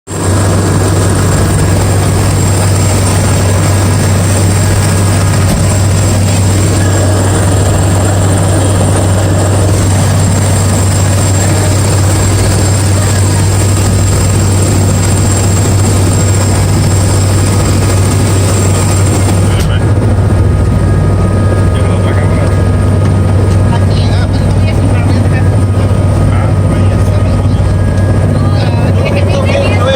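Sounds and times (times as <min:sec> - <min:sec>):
helicopter rotor drone: 0:00.1 - 0:29.9.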